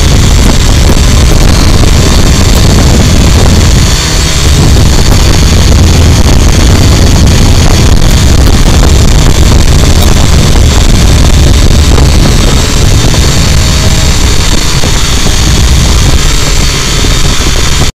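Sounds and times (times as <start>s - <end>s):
drone motors whining: 0.0s - 17.9s
propeller wash buffeting microphone: 0.0s - 18.0s.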